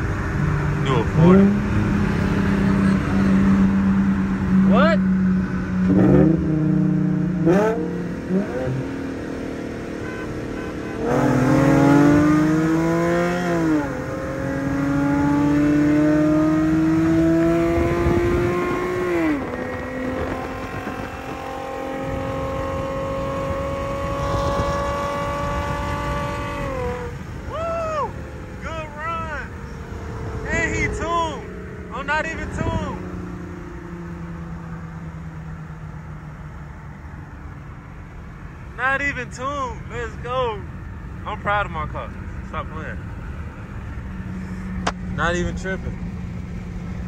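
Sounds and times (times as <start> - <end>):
car engine at full throttle: 0.0 - 47.0.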